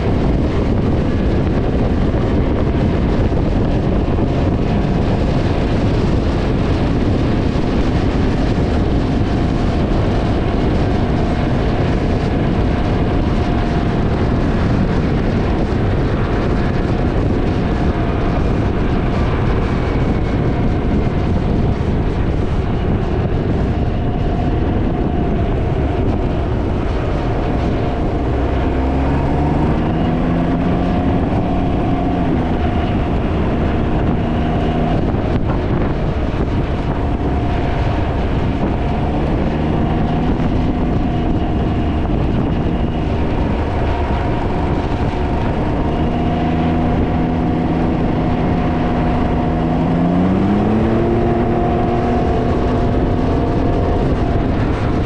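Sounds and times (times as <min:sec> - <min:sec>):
faint engine running: 0:00.0 - 0:55.0
wind buffeting microphone: 0:00.0 - 0:55.0.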